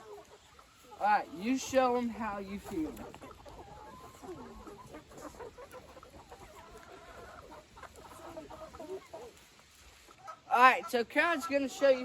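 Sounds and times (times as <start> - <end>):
chickens clucking faintly: 0.0 - 12.0.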